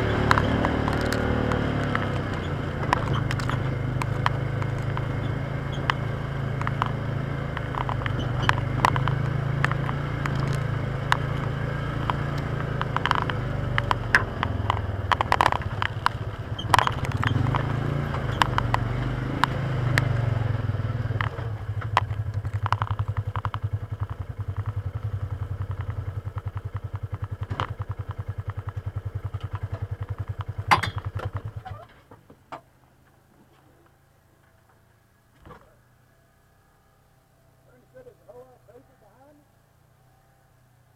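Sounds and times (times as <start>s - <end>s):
rattles and clatter: 0.0s - 20.2s, 21.1s - 33.8s
vehicle engine running: 0.0s - 40.9s.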